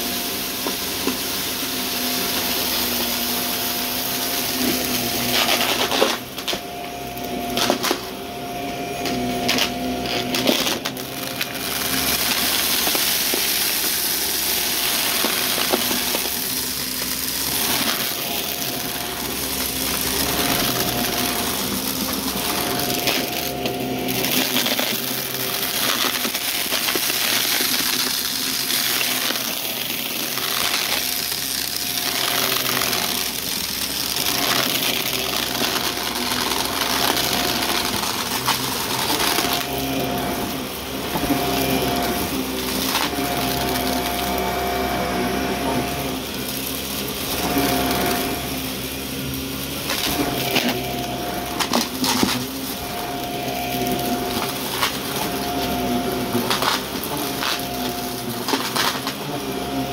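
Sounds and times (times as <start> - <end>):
upright vacuum running: 0.0 - 59.9
debris crackling through vacuum: 9.0 - 59.2.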